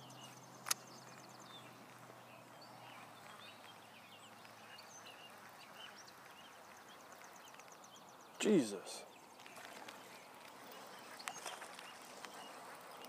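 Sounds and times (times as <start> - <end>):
faint pond ambience: 0.0 - 13.0.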